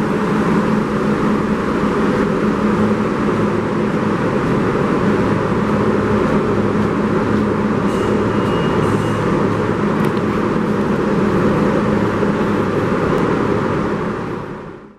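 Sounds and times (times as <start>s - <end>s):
low motor hum: 0.0s - 14.9s
subway train wheels rumbling: 0.0s - 14.9s.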